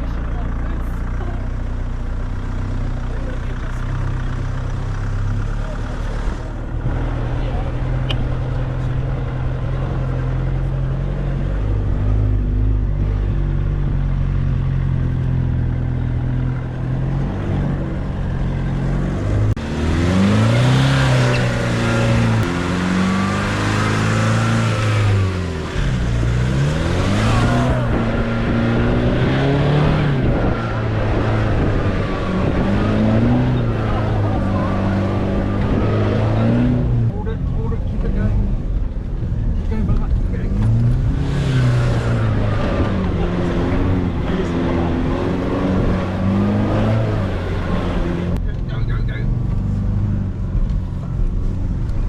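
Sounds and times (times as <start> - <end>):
truck engine revving: 0.0 - 52.0.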